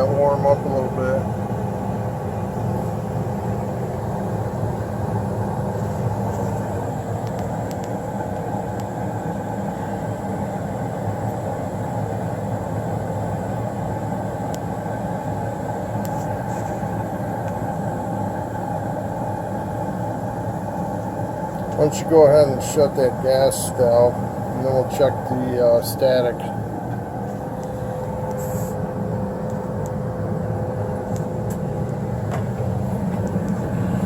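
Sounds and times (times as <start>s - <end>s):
gas furnace blower humming: 0.0s - 34.0s.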